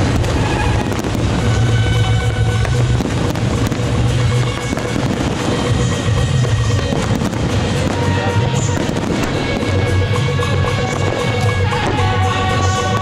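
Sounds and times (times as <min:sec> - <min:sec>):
fireworks crackling and popping: 0:00.0 - 0:13.0
loud music with bass beat: 0:00.0 - 0:13.0.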